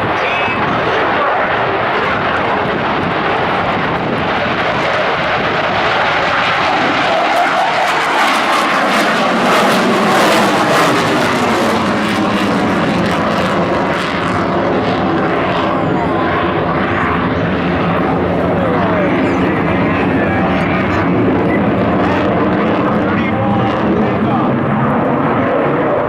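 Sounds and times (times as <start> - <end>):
jet engines running loud: 0.0 - 26.0.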